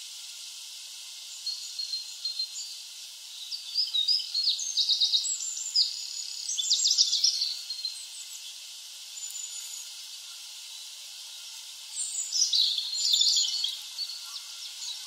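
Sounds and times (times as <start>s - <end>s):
faint steady hiss: 0.0s - 15.0s
high thin birdsong: 0.0s - 15.0s.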